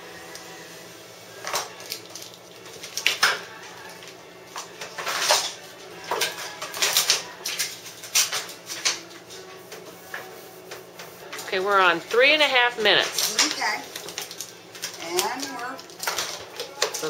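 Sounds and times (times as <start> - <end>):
vinyl film crinkling and rustling: 1.4 - 17.0.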